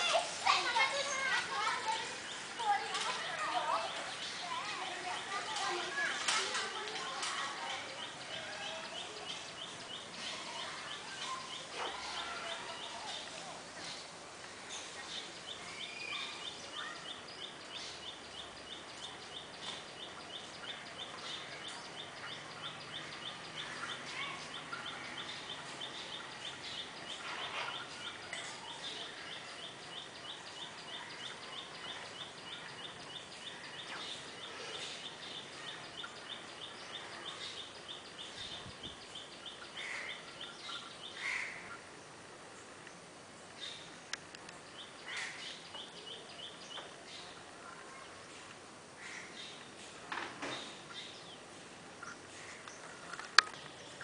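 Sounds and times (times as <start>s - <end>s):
bird calls: 0.0s - 54.0s
steady hiss: 0.0s - 54.0s.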